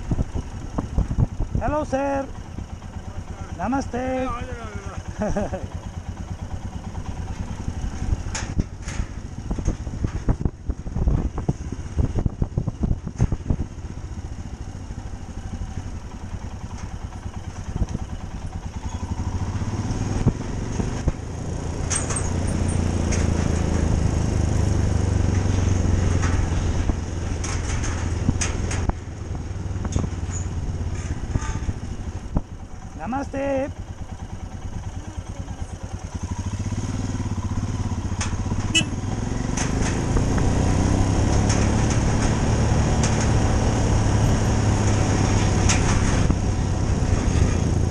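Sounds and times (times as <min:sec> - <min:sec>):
motorcycle engine running: 0:00.0 - 0:47.9
sharp knocks and rattles: 0:00.0 - 0:47.9.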